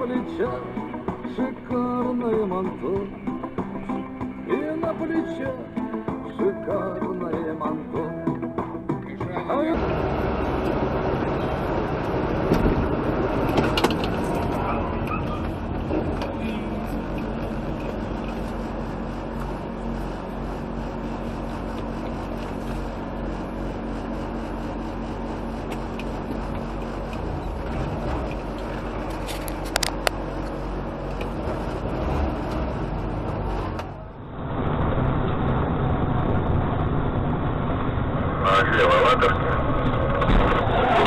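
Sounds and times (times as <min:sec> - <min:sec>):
vehicle road and engine noise: 0:00.0 - 0:41.0.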